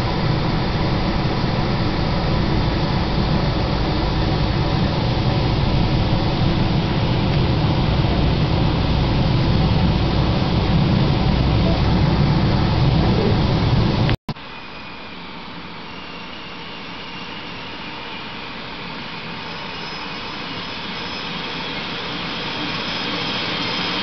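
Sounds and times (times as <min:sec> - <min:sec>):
train running noise inside carriage: 0:00.0 - 0:24.0.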